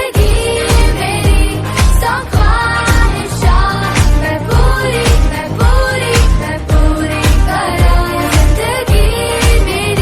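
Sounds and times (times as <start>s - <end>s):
pop song with drums and singing: 0.0s - 10.0s.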